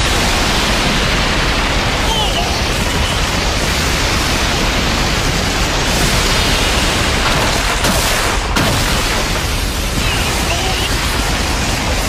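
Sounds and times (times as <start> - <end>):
loud steady rushing hiss: 0.0 - 12.0.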